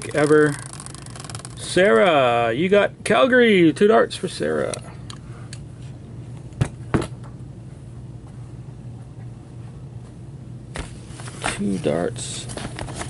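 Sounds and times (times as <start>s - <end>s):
room noise hum: 0.0s - 13.0s.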